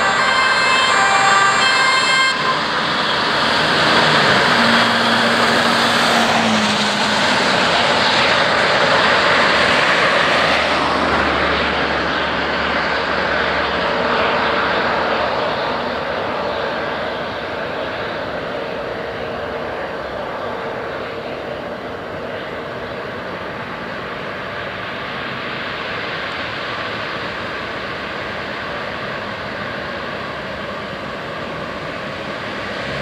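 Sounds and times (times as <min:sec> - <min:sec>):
road vehicles driving past: 0:00.0 - 0:33.0.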